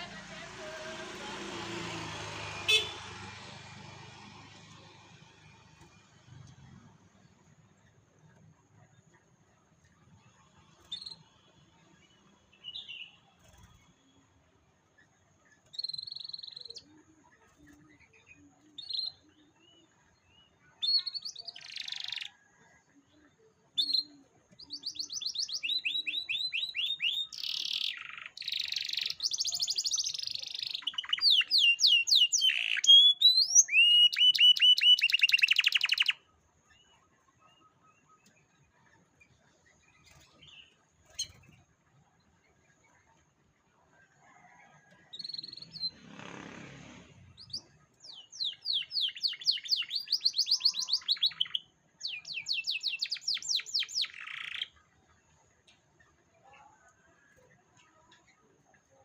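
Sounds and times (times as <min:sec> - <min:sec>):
canary singing: 0:00.0 - 0:08.0, 0:09.8 - 0:14.0, 0:15.0 - 0:22.4, 0:23.7 - 0:41.7, 0:44.3 - 0:46.2, 0:47.2 - 0:54.9.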